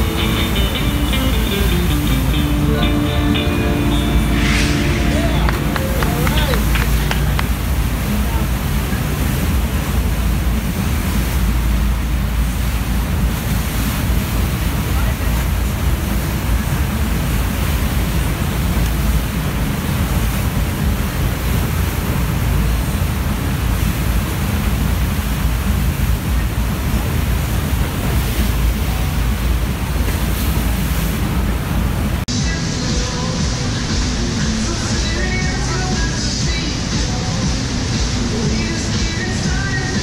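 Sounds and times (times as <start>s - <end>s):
water rushing steadily: 0.0s - 40.0s.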